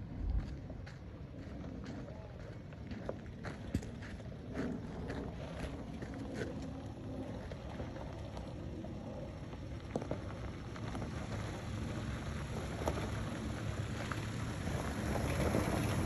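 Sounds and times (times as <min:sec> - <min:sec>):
off-road vehicle rumble: 0:00.0 - 0:16.0.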